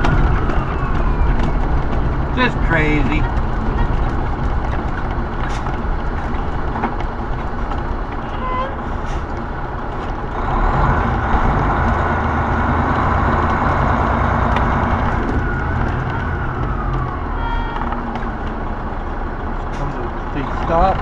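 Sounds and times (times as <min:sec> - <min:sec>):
road noise: 0:00.0 - 0:21.0
truck engine humming: 0:00.0 - 0:21.0.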